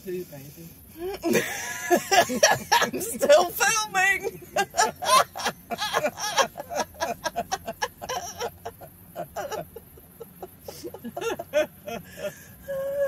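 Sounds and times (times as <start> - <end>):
people giggling: 1.0 - 12.3.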